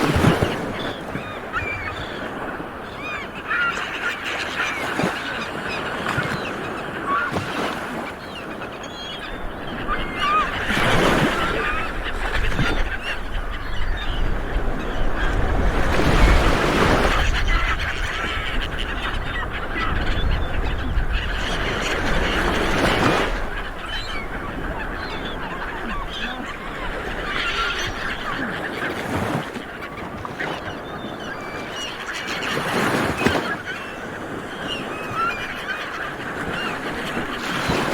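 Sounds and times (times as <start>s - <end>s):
seabirds honking calls: 0.0s - 37.9s.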